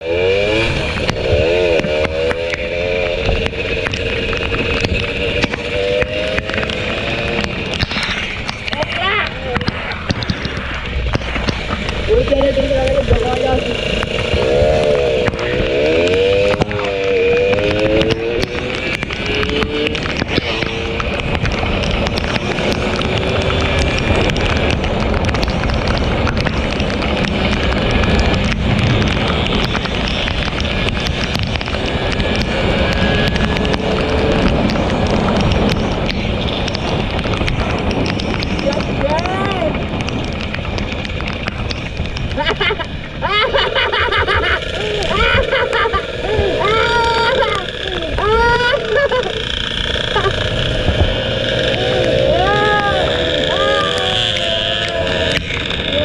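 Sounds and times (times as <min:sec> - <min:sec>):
two-stroke motorcycle engine: 0:00.0 - 0:56.0
wind on microphone: 0:00.0 - 0:56.0
rain striking camera: 0:00.5 - 0:56.0.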